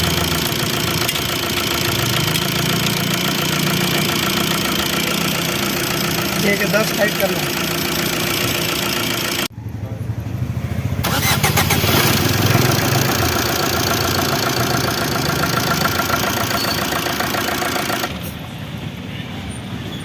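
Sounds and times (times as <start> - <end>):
diesel engine running: 0.0 - 18.4.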